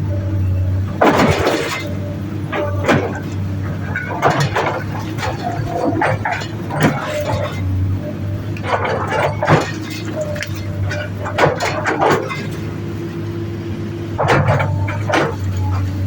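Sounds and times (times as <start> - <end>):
excavator diesel engine running: 0.0 - 16.0
machine clanks and knocks: 0.9 - 12.7, 14.2 - 16.0.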